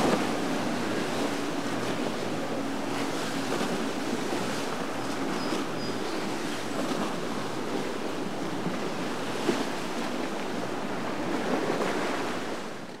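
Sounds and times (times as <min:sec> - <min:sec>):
outboard engines running: 0:00.0 - 0:13.0
rushing water: 0:00.0 - 0:13.0.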